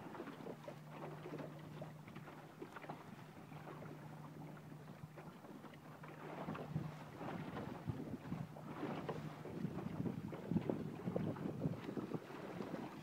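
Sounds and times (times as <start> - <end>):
water splashing against a boat hull: 0.0 - 13.0.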